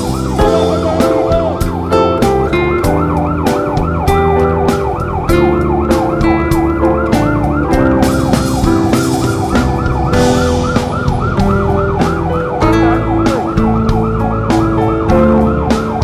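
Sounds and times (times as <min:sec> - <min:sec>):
fast siren wail: 0:00.0 - 0:16.0
music with steady beat: 0:00.0 - 0:16.0.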